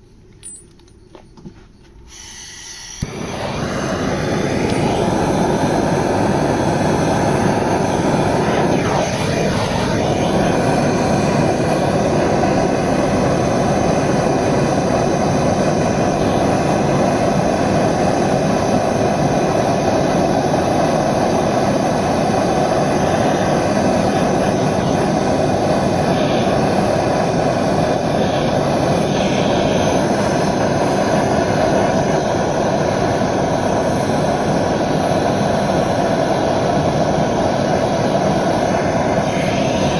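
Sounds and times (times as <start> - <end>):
gas torch flame hissing: 2.0 - 39.9.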